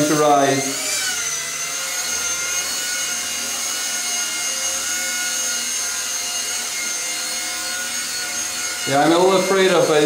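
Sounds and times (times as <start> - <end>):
rc helicopter rotor whine: 0.0 - 10.0.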